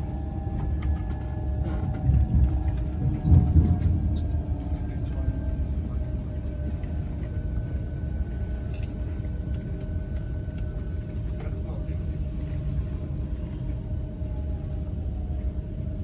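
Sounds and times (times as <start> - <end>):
electric train rumble and whine: 0.0 - 16.0.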